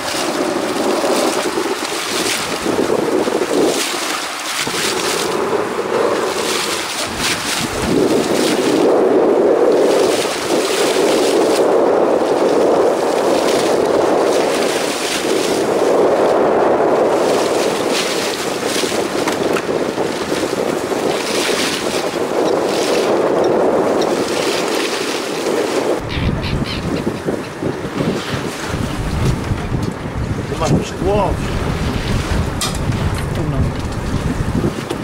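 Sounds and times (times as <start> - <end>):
wind and sea rushing hiss: 0.0 - 35.0.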